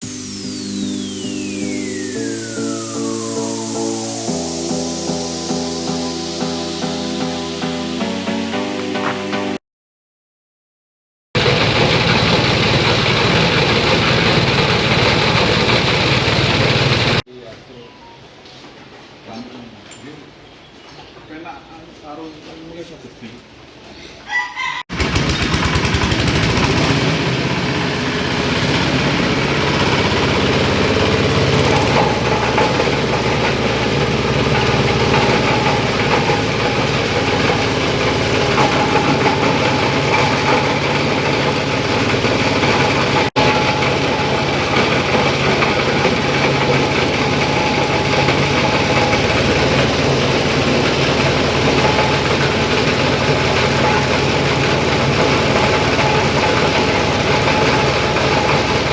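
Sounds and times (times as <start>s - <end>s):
grinding machine drone: 0.0s - 7.9s, 11.4s - 17.3s, 24.9s - 58.9s.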